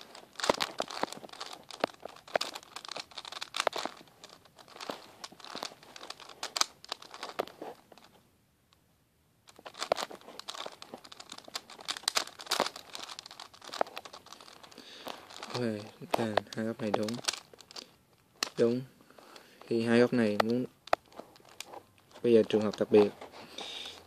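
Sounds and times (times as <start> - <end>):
puzzle cube layers clicking: 0.0 - 8.1, 9.5 - 24.0.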